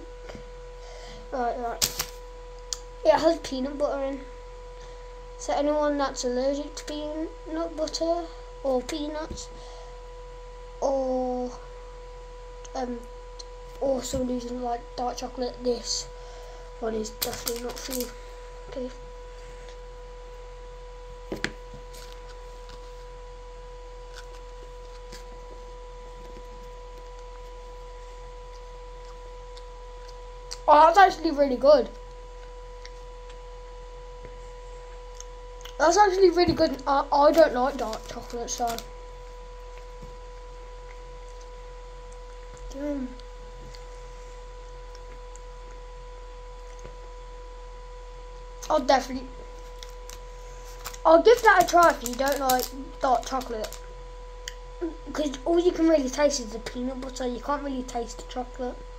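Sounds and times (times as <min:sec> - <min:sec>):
low mains hum: 0:00.0 - 0:58.9
steady electrical tone: 0:00.0 - 0:58.9.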